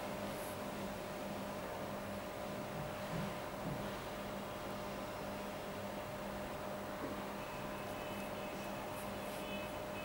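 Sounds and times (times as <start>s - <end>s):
low hum with hiss: 0.0s - 10.0s.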